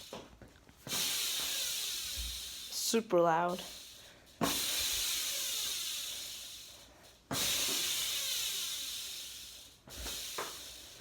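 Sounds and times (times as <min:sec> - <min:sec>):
bike freewheel hub buzzing: 0:00.0 - 0:11.0.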